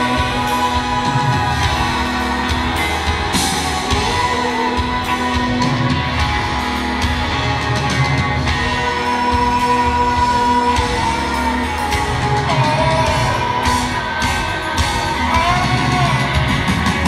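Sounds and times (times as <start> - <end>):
bass guitar: 0.0 - 17.0
drums: 0.0 - 17.0
electric guitar: 0.0 - 17.0.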